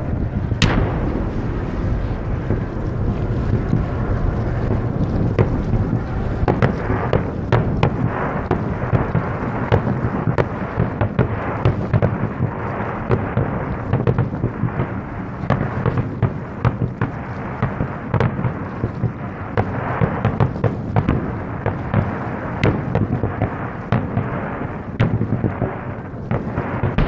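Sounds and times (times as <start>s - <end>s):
firework booms rumbling: 0.0s - 27.0s
sharp firework cracks: 0.0s - 27.0s.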